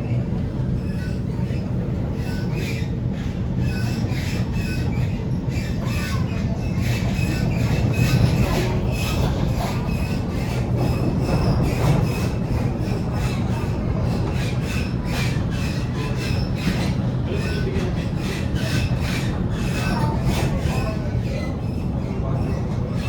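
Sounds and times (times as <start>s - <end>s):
train wheels and motors rumbling: 0.0s - 23.0s
faint wheel squeals: 0.8s - 23.0s.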